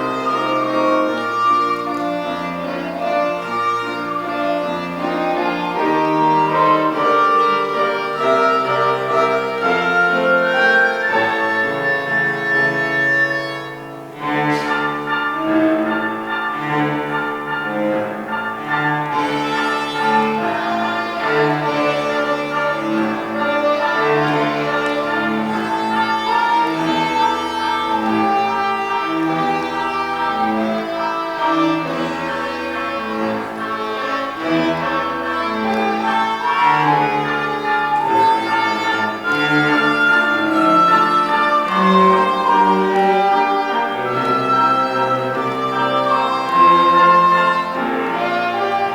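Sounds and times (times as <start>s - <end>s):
cello and violin waltz: 0.0s - 48.9s.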